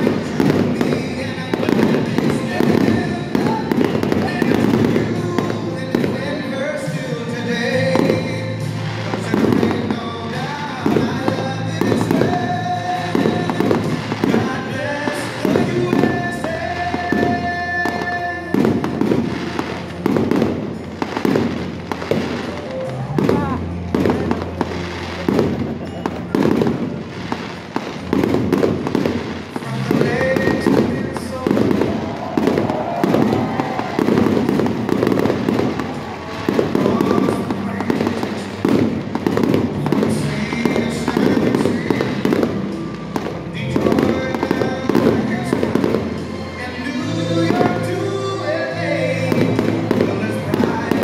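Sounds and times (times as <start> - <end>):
loud firework booms: 0.0 - 6.4, 9.0 - 22.6, 25.2 - 46.4
fireworks shells bursting: 0.0 - 48.3
music playing: 0.0 - 51.0.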